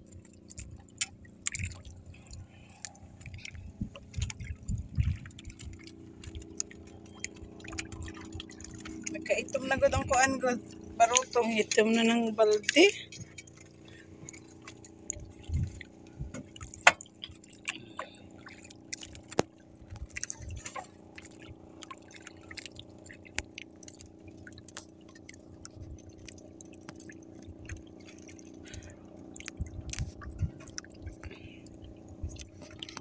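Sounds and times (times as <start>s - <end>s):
faint steady hum: 0.0s - 33.0s
water lapping around boat: 0.0s - 33.0s.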